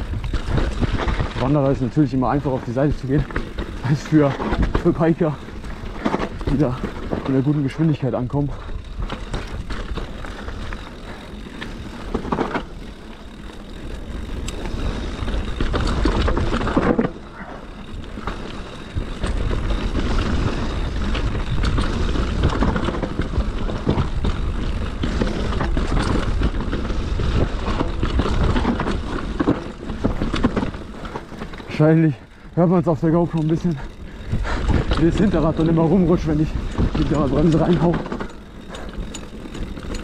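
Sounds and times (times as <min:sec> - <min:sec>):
bike tyres on dirt and stones: 0:00.0 - 0:40.0.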